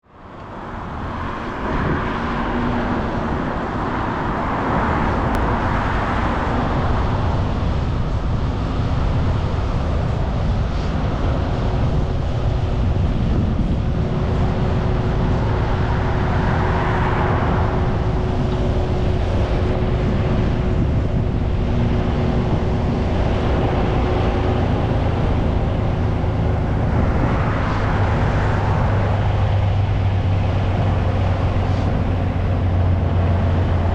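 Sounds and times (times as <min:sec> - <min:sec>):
cars passing: 0:00.0 - 0:33.9
wind and road rumble: 0:00.0 - 0:33.9.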